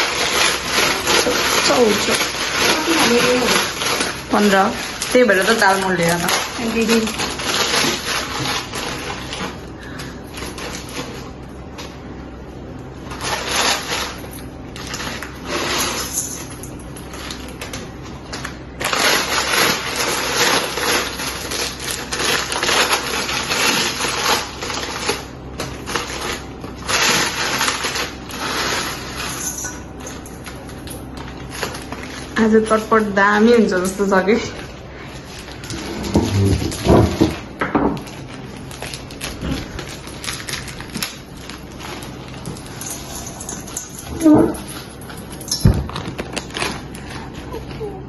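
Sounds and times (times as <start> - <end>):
dry snacks crunching in a bowl: 0.0 - 11.4, 17.0 - 47.5.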